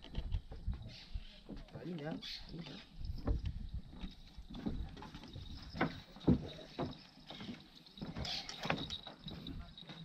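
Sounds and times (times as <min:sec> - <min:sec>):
footsteps on wooden planks: 0:00.0 - 0:10.0.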